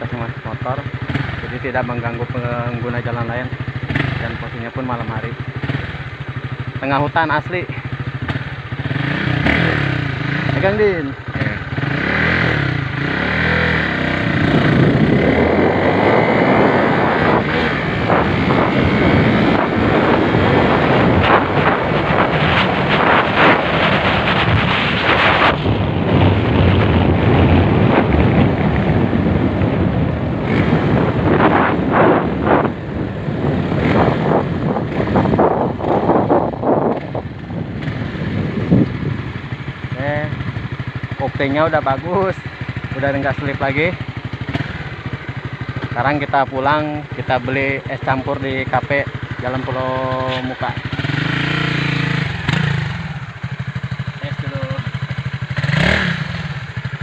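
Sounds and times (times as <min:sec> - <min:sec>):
motorcycle engine revving hard: 0:00.0 - 0:57.0
wind noise on microphone: 0:08.2 - 0:57.0.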